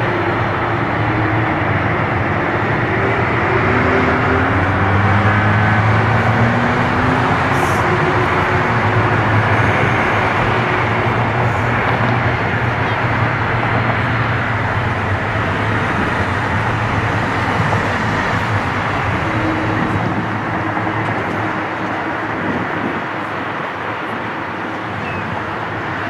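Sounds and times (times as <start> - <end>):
cars passing: 0.0 - 26.0
jet engines at taxi power: 0.0 - 26.0.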